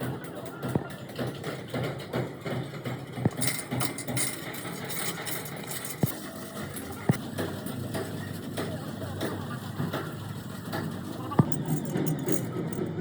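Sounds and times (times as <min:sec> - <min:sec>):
workshop noise: 0:00.0 - 0:13.0.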